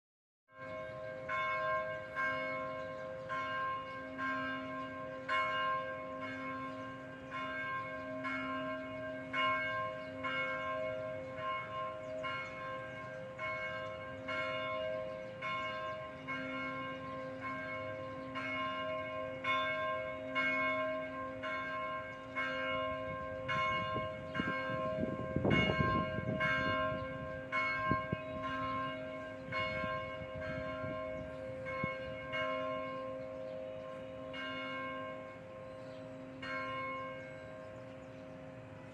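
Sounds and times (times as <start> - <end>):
church bells ringing: 0.5 - 38.9.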